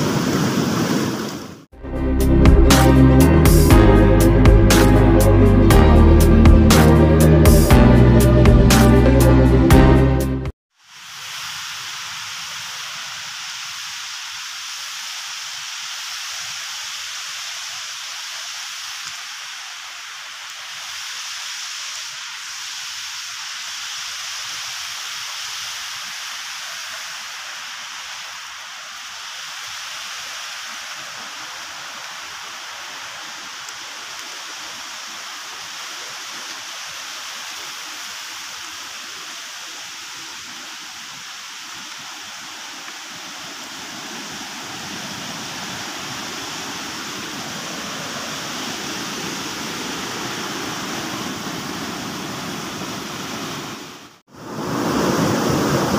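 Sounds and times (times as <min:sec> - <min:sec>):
river rapids rushing: 0:10.9 - 0:55.9.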